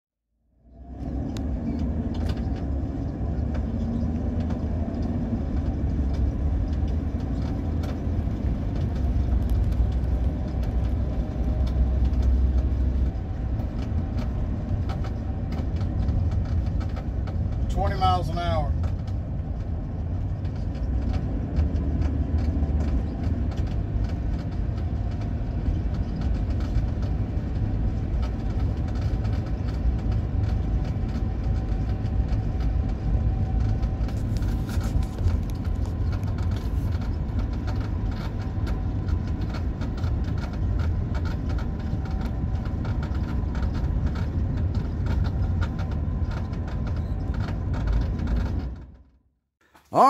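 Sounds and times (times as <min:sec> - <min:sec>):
car cabin low rumble: 0:00.5 - 0:49.1
rapid crunching clicks: 0:01.3 - 0:49.0.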